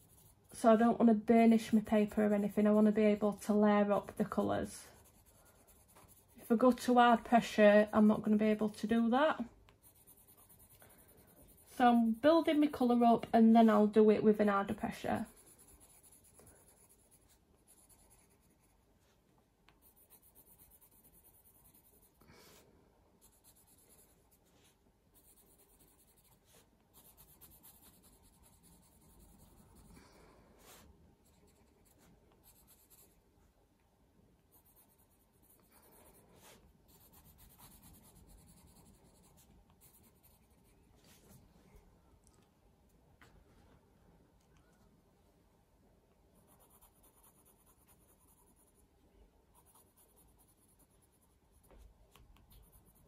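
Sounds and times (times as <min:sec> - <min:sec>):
coloured pencil scratching on paper: 0:00.0 - 0:22.6, 0:23.2 - 0:33.2, 0:34.5 - 0:41.3, 0:46.4 - 0:53.0.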